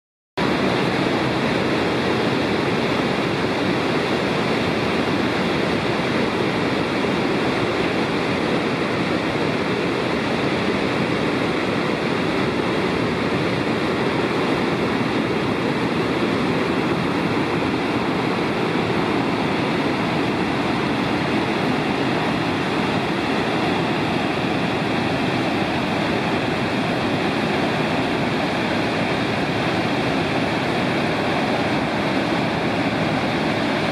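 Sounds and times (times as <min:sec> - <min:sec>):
rush of falling water: 0:00.4 - 0:33.9.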